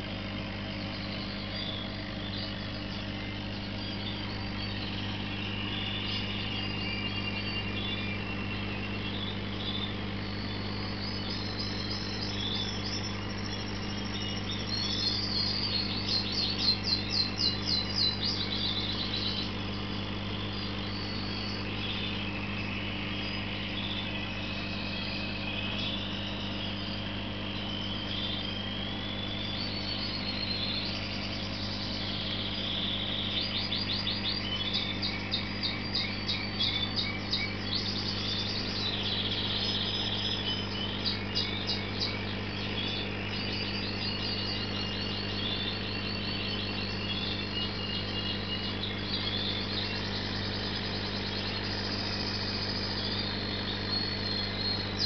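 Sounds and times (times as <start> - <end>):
birds chirping: 0.0 - 55.0
rapid bird trills: 0.0 - 55.0
steady low hum: 0.0 - 55.0.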